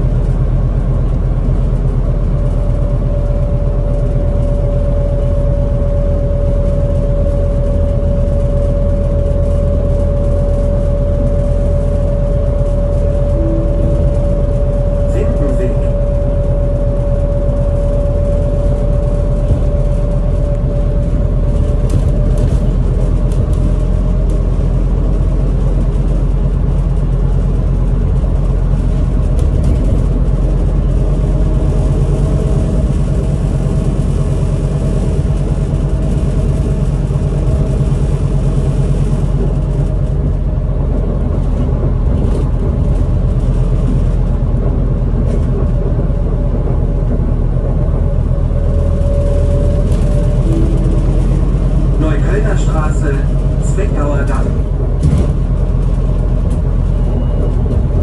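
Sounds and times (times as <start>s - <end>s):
bus engine drone with whine: 0.0s - 58.0s
road rumble: 0.0s - 58.0s.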